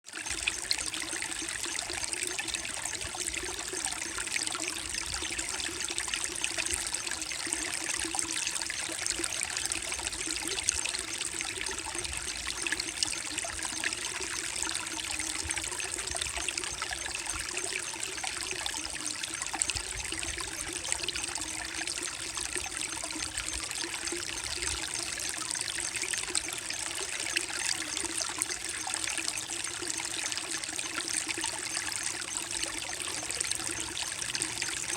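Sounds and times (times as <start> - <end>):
stream babbling over rocks: 0.2 - 34.9.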